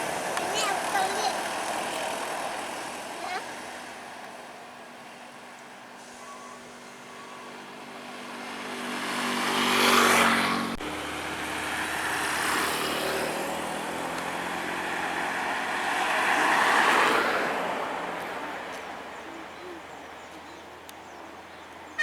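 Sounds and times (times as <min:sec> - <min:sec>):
heavy vehicles driving past: 0:00.0 - 0:22.0.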